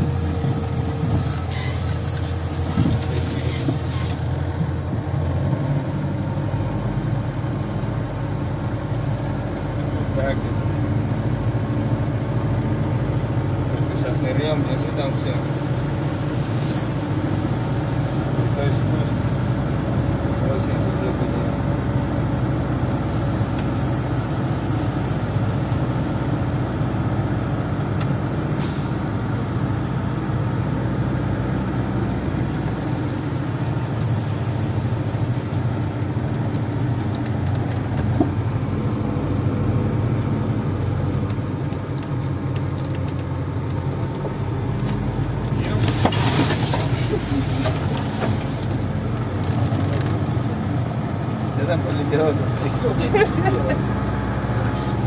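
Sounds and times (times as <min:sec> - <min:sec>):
tracked vehicle engine running: 0:00.0 - 0:55.0.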